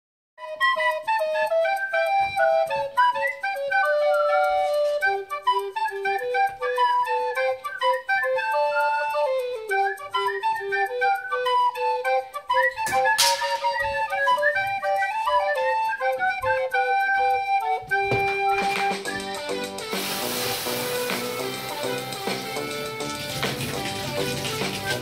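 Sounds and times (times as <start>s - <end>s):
quick melody of high notes: 0.5s - 25.0s.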